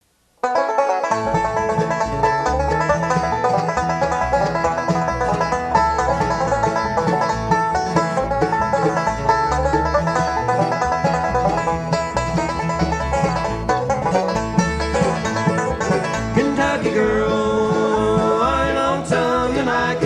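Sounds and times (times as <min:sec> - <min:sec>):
guitar: 0:00.4 - 0:20.0
mandolin: 0:00.4 - 0:20.0
rapid banjo picking: 0:00.4 - 0:20.0
upright bass: 0:00.7 - 0:20.0.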